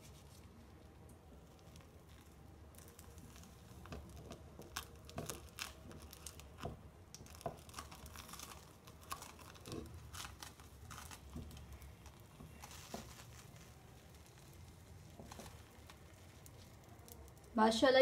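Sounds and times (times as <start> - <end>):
omelette crackling in pan: 0.0 - 18.0.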